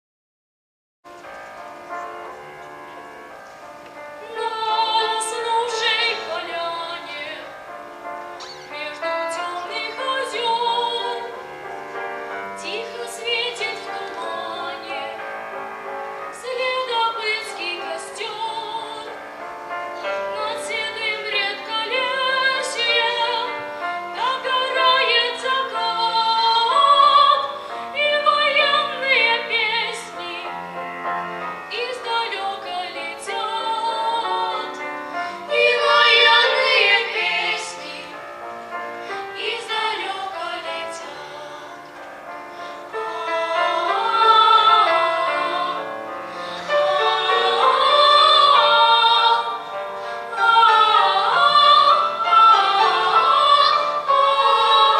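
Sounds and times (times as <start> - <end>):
piano accompaniment: 1.1 - 54.9
children's choir singing: 4.2 - 7.5, 8.4 - 15.6, 16.2 - 19.4, 20.0 - 38.4, 39.1 - 54.9.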